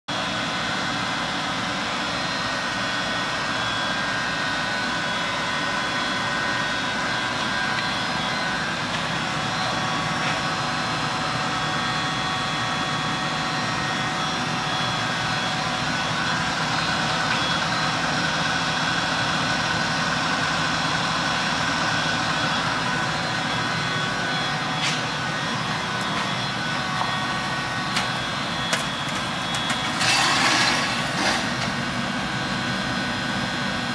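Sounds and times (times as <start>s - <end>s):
furnace mechanical hum: 0.1s - 33.9s.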